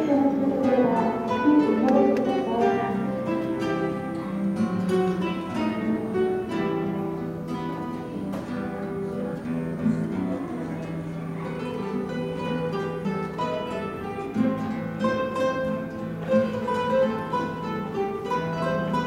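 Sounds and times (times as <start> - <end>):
acoustic guitar ensemble: 0.0 - 19.0.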